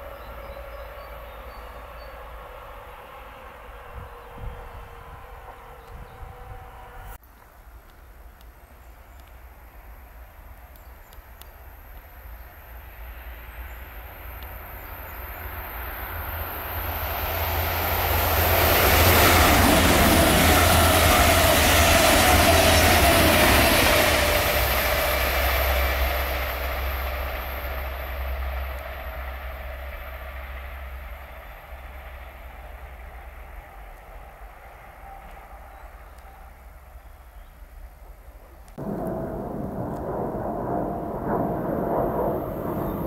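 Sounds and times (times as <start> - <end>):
high-speed train passing: 0.0 - 7.2, 11.6 - 37.1, 38.0 - 43.0.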